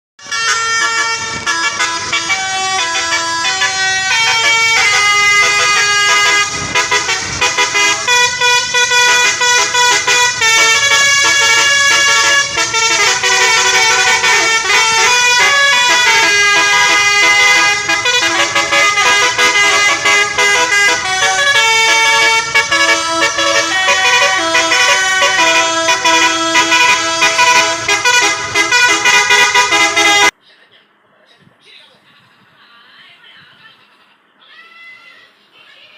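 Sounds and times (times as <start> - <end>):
multi-tone bus air horn melody: 0.2 - 30.4.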